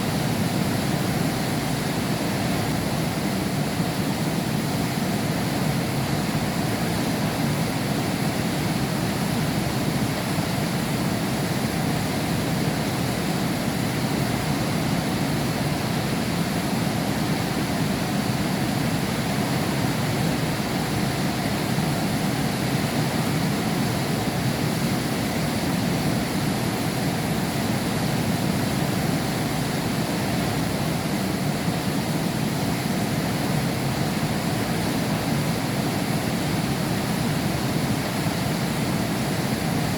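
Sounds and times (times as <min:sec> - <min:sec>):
heavy rain behind window glass: 0:00.0 - 0:39.9.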